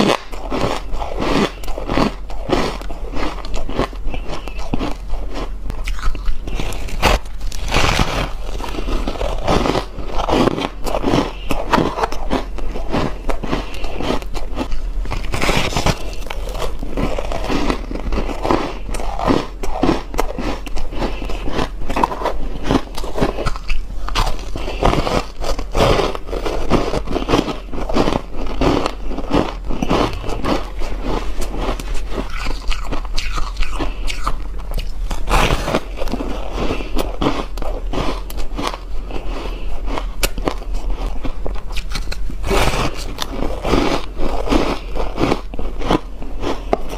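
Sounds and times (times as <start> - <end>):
ice crunching while chewed: 0.0 - 46.9.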